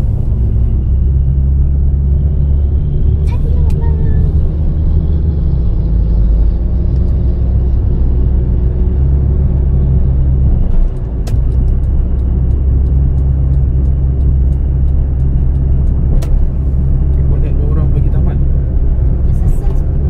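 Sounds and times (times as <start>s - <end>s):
car engine low rumble: 0.0s - 20.0s.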